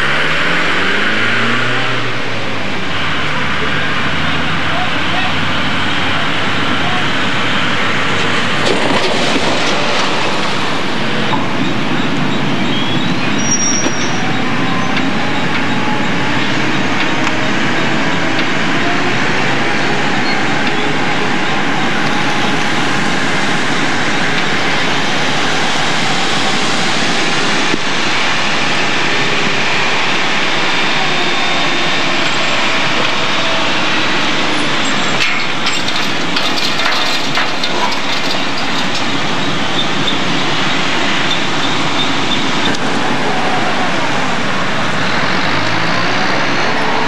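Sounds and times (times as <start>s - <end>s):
diesel locomotive engine running: 2.1s - 47.0s
train wheels rolling on rails: 5.5s - 45.9s.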